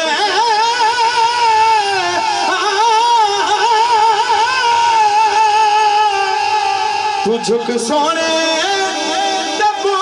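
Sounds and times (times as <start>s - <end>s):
man singing long note with vibrato: 0.0s - 10.0s.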